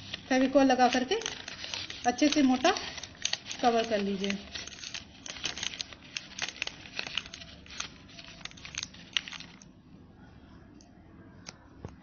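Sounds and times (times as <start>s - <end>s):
newspaper crinkling: 0.0s - 9.7s.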